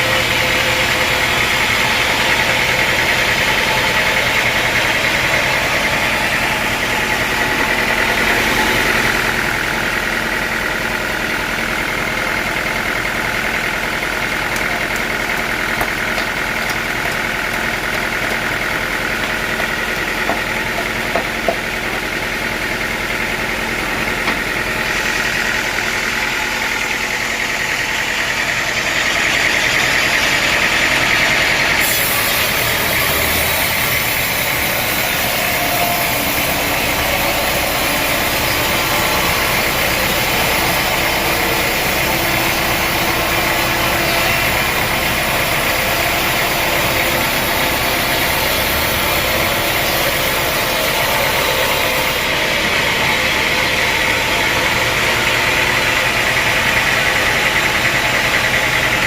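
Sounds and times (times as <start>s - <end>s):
sawmill saw cutting log: 0.0s - 59.0s.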